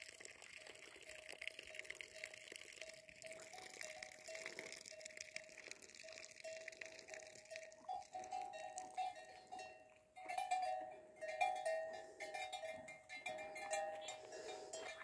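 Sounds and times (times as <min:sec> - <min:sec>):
cattle bells clanking: 0:00.6 - 0:15.0.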